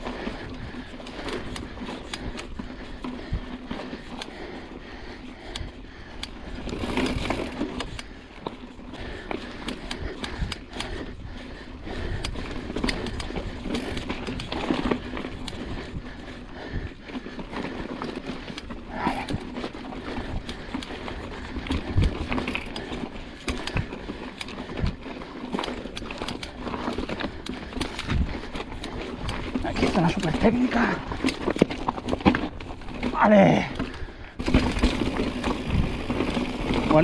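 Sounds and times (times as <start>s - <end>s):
bike rattling over stones: 0.0s - 37.0s.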